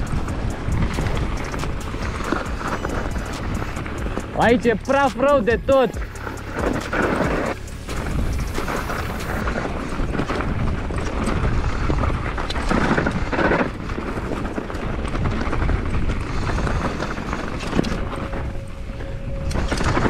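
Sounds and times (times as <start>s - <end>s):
bike rattling and knocking: 0.0s - 20.0s
bike tyres rumbling: 0.0s - 20.0s
wind buffeting microphone: 0.0s - 20.0s.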